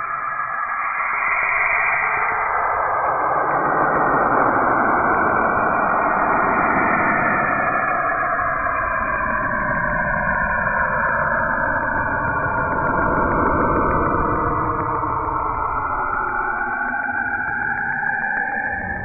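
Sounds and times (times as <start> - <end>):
eerie rushing drone: 0.0 - 19.0.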